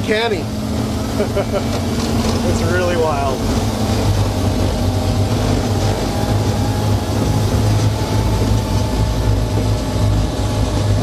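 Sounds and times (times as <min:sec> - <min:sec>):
diesel engine droning: 0:00.0 - 0:11.0
faint steady whine: 0:00.0 - 0:11.0
rumble of vehicle tracks: 0:00.0 - 0:11.0.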